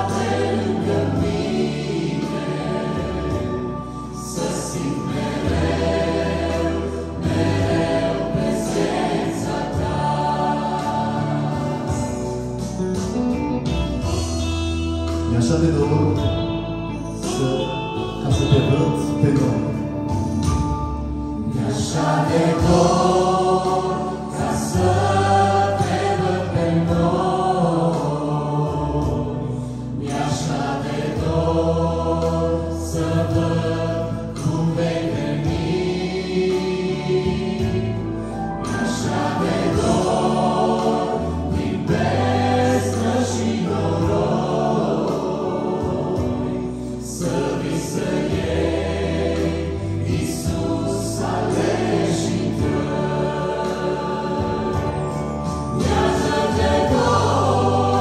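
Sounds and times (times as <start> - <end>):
choir singing in harmony: 0.0 - 58.0
long held bass notes: 0.0 - 58.0.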